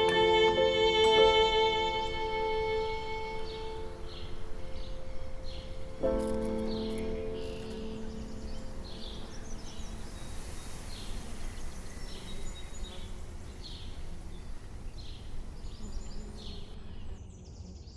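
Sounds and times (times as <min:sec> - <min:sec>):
small bird chirping: 0:01.0 - 0:17.2.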